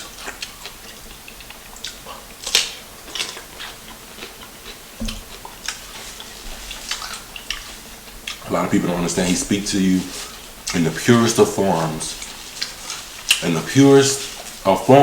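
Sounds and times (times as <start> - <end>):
person chewing food: 0.0 - 14.7.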